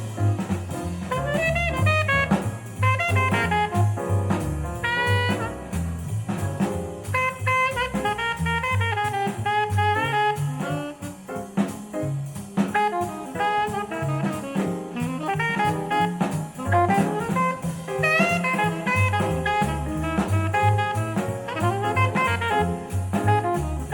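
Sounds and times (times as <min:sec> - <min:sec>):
jazz music over loudspeakers: 0:00.0 - 0:23.9.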